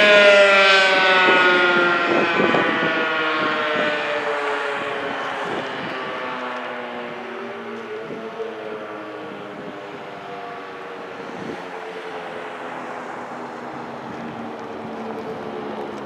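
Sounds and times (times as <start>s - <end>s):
warning siren low steady tone: 0.0s - 16.0s.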